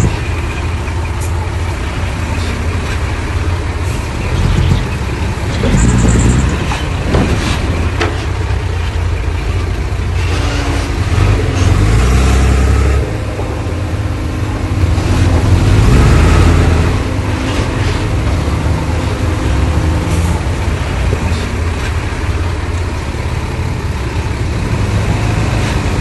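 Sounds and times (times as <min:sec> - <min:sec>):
heavy diesel engine under load: 0:00.0 - 0:26.0.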